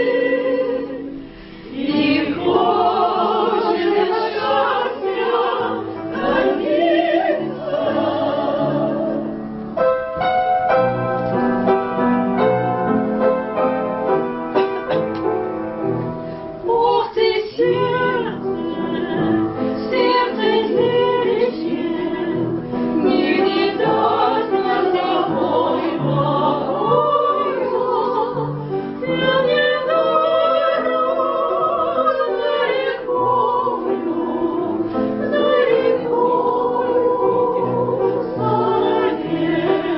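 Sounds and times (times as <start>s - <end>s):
operatic singing voices: 0.0s - 9.3s, 16.6s - 39.9s
piano: 0.0s - 39.9s.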